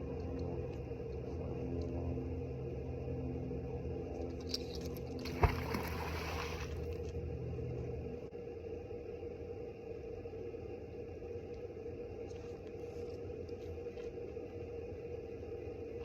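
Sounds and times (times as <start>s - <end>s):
low engine-like hum: 0.0s - 16.0s.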